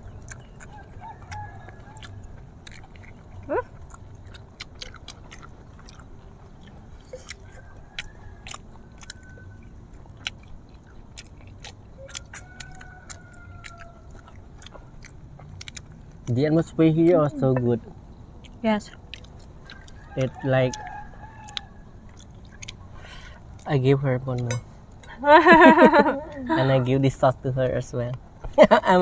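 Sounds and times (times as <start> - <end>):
crunchy chewing of fried chicken: 0.0 - 25.1.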